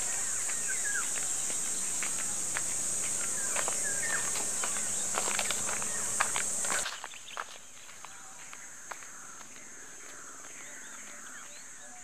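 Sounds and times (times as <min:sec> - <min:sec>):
bird chirping: 0:00.0 - 0:12.0
footsteps crunching on dry ground: 0:00.0 - 0:12.0
insects shrilling: 0:00.0 - 0:12.0.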